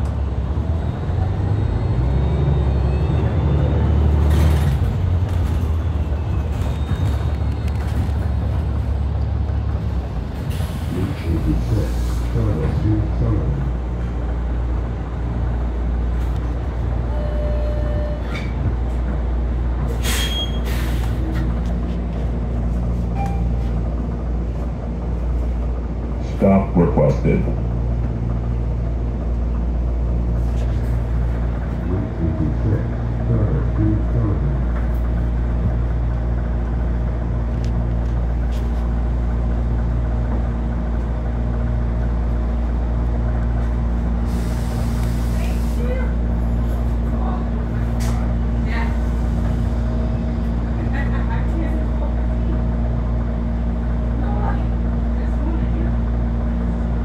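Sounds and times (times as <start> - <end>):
bus engine drone: 0.0 - 57.0
road rumble: 0.0 - 57.0.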